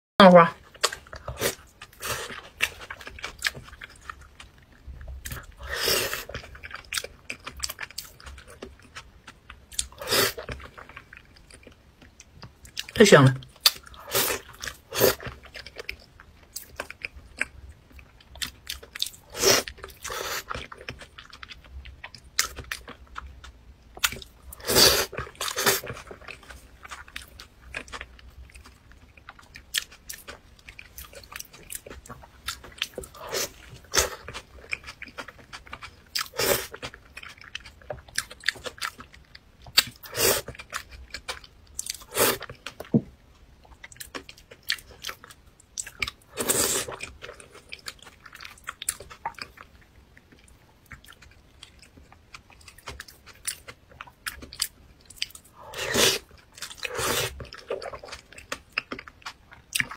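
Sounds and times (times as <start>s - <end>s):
person chewing food: 0.6s - 59.9s.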